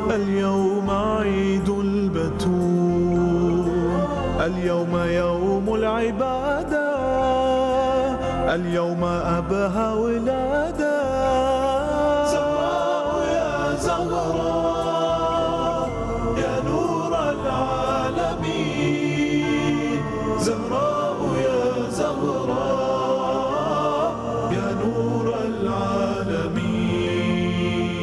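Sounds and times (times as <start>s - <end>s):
chorus singing devotional song: 0.0s - 28.0s
musical backing with sharp beats: 0.0s - 28.0s.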